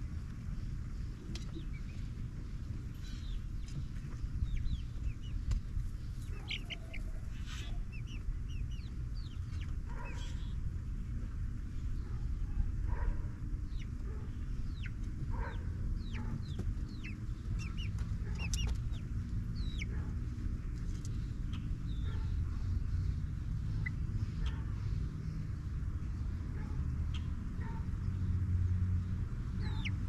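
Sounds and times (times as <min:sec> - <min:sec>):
steady low rumble: 0:00.0 - 0:30.0
chicks peeping: 0:00.1 - 0:30.0.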